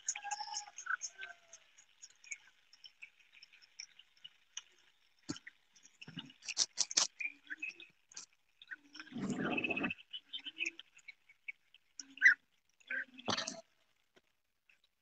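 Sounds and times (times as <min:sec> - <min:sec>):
faint clicks and ticks: 0:00.0 - 0:15.0.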